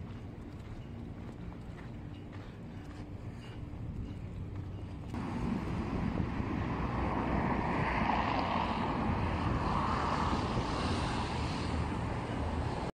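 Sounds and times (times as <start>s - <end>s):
wind rumbling on microphone: 0.0s - 12.9s.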